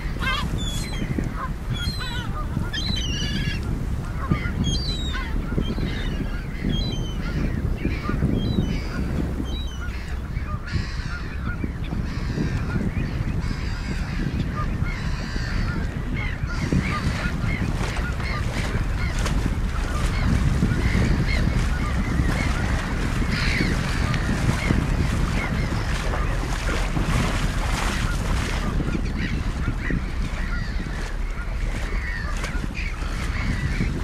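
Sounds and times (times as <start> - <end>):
flock of birds calling: 0.0 - 34.0
wind rumble on microphone: 0.0 - 34.0.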